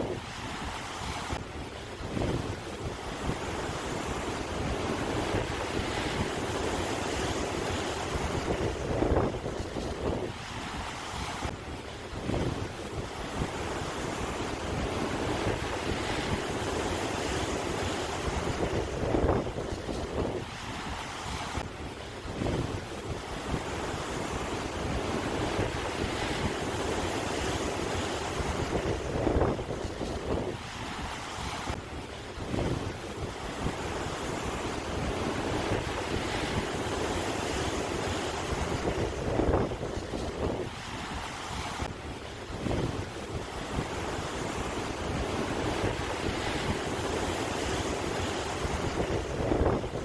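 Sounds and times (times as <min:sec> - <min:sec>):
sea waves breaking: 0:00.0 - 0:50.0
wind buffeting microphone: 0:00.0 - 0:50.0.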